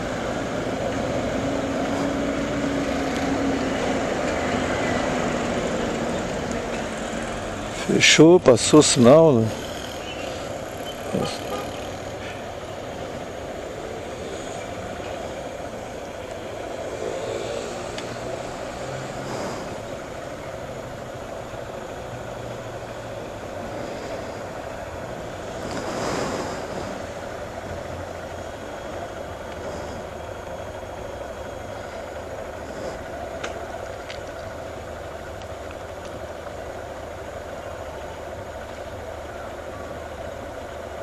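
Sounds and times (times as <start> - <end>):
vehicle passing close: 0.0 - 39.8
motorcycle engine running: 0.0 - 41.0
street traffic: 0.0 - 41.0.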